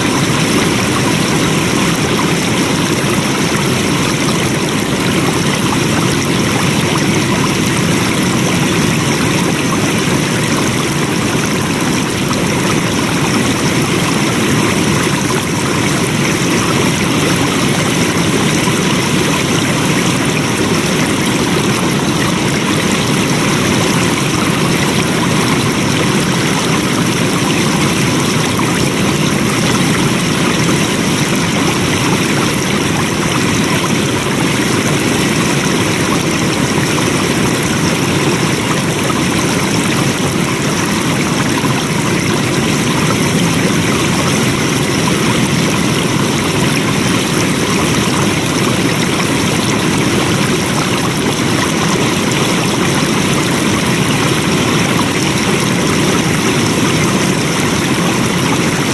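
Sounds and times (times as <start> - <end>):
water rushing in a stream: 0.0 - 58.9.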